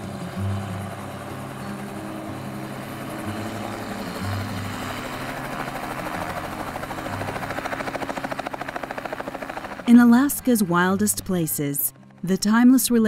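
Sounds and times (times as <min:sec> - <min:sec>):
helicopter rotor spinning up: 0:00.0 - 0:12.5
background music: 0:00.0 - 0:13.0.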